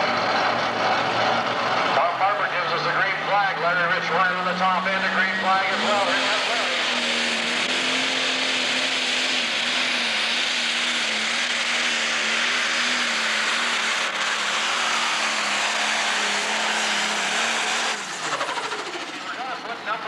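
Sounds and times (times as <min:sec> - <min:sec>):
tractor engine running flat out: 0:00.0 - 0:20.0.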